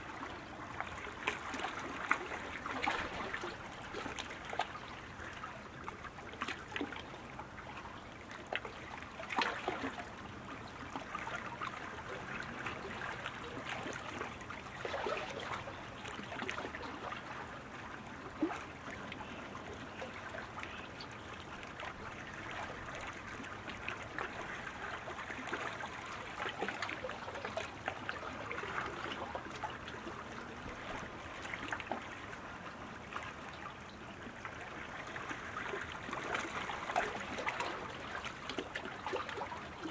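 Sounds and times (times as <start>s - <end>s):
paddles splashing water: 0.0s - 39.9s.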